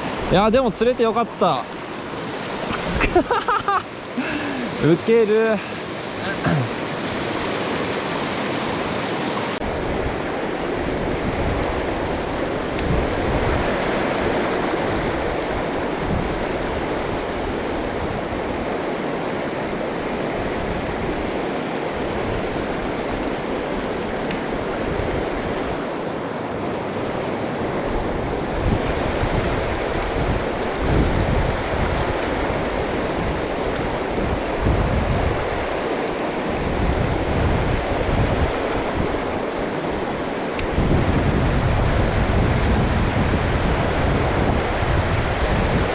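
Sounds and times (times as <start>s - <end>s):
stream rushing: 0.0s - 45.9s
wind buffeting microphone: 2.1s - 3.5s, 9.6s - 45.9s.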